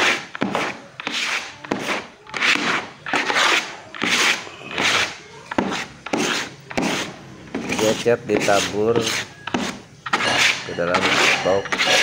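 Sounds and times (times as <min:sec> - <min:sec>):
pad rasping on painted wood: 0:00.0 - 0:12.0.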